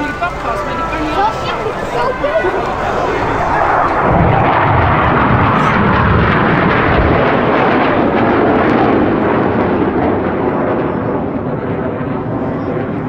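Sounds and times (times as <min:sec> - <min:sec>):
jet aircraft flying over: 0:00.0 - 0:13.0.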